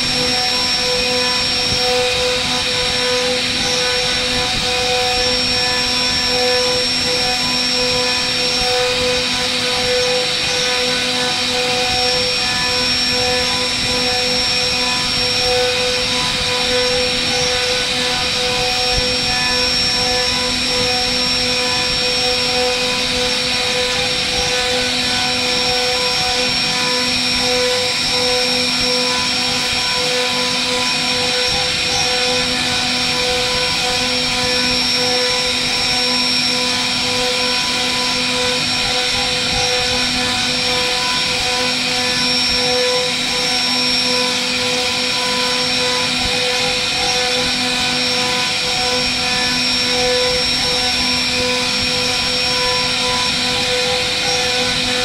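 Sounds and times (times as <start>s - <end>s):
cnc router spindle whine: 0.0s - 55.0s.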